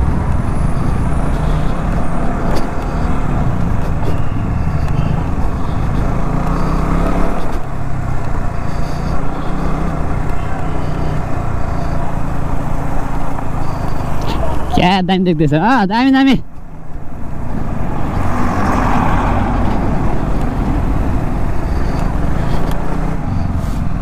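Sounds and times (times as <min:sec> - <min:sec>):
motorcycle engine riding slowly: 0:00.0 - 0:14.8, 0:16.4 - 0:24.0.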